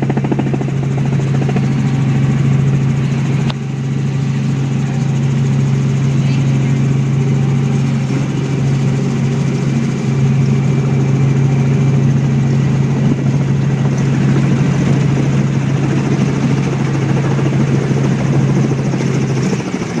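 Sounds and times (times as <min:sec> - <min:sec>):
helicopter in flight: 0:00.0 - 0:20.0.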